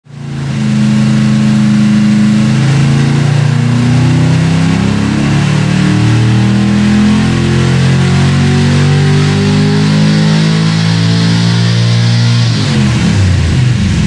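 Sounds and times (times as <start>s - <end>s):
engine running on dyno: 0.1s - 14.0s.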